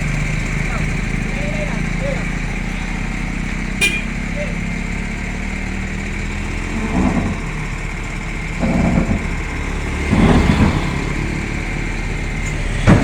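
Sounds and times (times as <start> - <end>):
heavy vehicle engine idling: 0.0 - 13.0.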